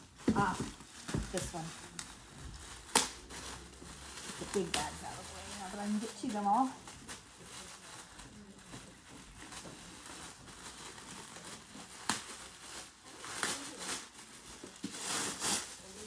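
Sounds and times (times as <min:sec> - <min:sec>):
plastic bag rustling: 0:00.0 - 0:16.0.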